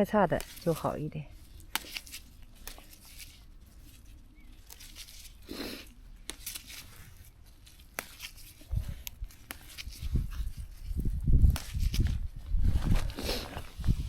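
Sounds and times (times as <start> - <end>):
leaves rustling: 0.0 - 14.0
plant stems snapping: 0.4 - 12.3.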